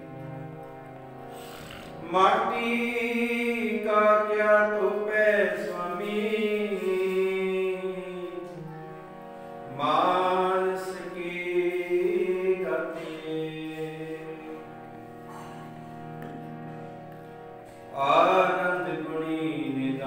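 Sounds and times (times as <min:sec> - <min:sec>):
harmonium chords: 0:00.0 - 0:20.0.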